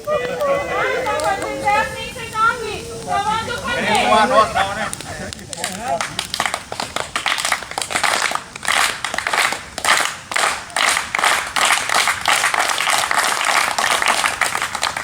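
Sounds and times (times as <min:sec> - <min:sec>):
crowd clapping and hissing: 0:00.0 - 0:15.0.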